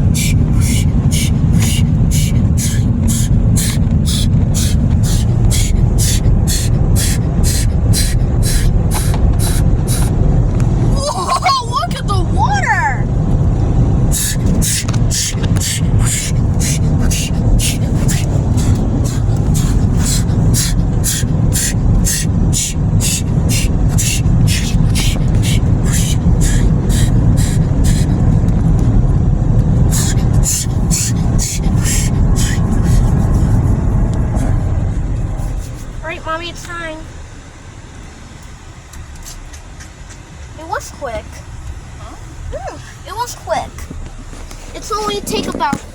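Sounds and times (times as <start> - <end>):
car wash low rumble: 0.0 - 45.9.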